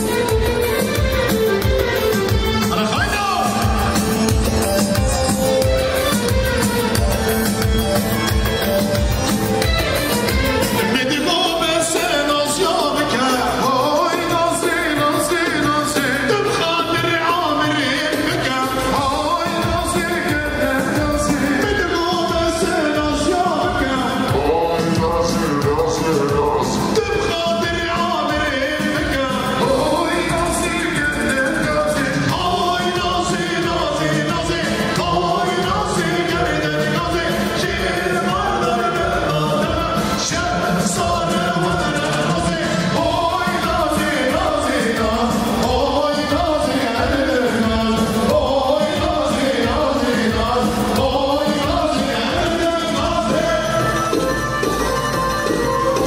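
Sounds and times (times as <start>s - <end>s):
steady drum beat: 0.0s - 13.2s, 13.8s - 56.0s
amplified singer: 0.0s - 56.0s
keyboard: 0.0s - 56.0s.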